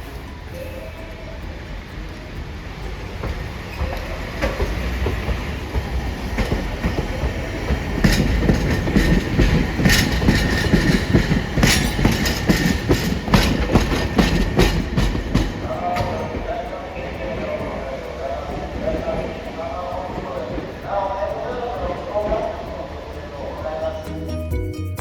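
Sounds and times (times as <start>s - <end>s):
streetcar low rumble: 0.0s - 25.0s
wheels clacking over rail joints: 0.0s - 25.0s.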